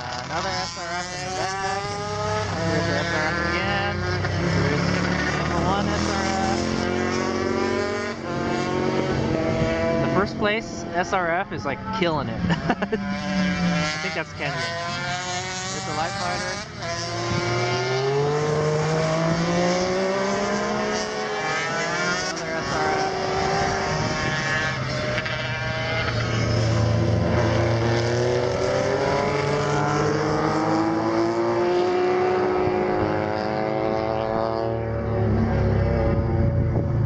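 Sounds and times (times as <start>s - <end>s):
racing motorcycles cornering: 0.0s - 37.0s.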